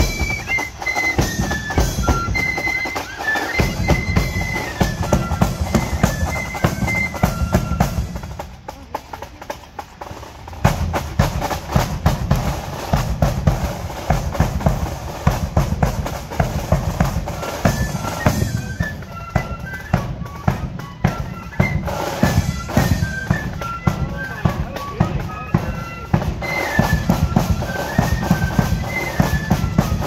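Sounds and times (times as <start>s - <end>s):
flutes playing melody: 0.0s - 8.7s, 10.7s - 30.0s
bass and snare drums marching beat: 0.0s - 30.0s.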